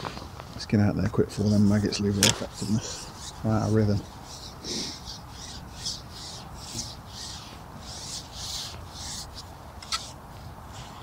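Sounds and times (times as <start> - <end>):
fishing pole sliding rasping: 1.2 - 10.2.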